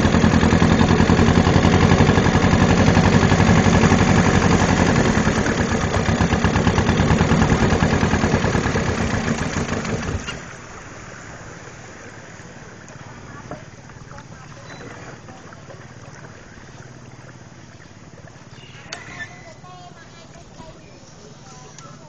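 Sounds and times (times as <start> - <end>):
small boat engine pulsing: 0.0 - 22.0.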